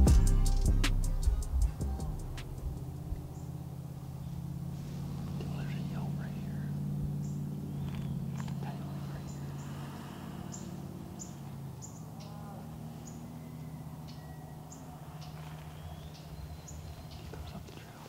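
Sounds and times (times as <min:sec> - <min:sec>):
steady low hum: 0:00.0 - 0:18.0
small birds chipping: 0:01.3 - 0:18.0.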